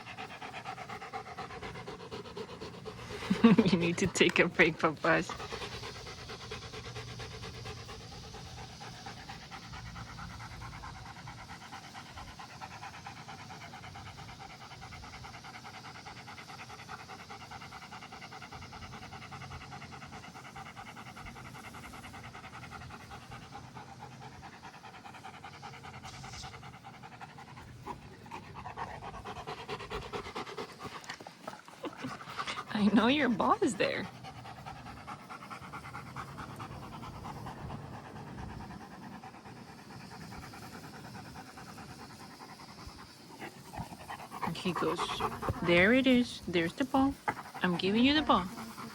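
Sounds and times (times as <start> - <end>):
dog panting: 0.0 - 48.9.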